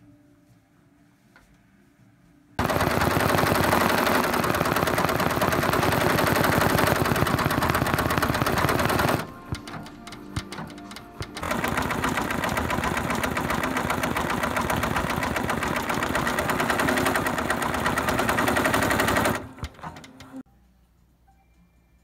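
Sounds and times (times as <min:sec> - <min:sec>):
embroidery machine needle rattling: 0:02.6 - 0:20.4.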